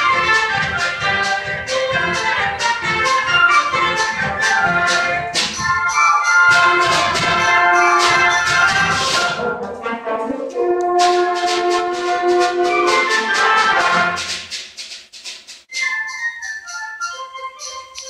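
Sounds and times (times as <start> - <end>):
concert band playing: 0.0 - 14.6
percussion strokes: 0.0 - 18.0.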